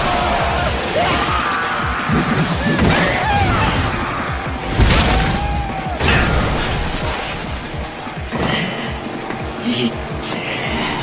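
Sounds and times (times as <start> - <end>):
dramatic soundtrack music: 0.0 - 11.0.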